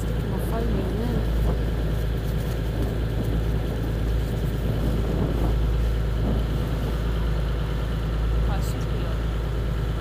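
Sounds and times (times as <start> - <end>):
boat engine droning: 0.0 - 10.0
rush of wind and water: 0.0 - 10.0.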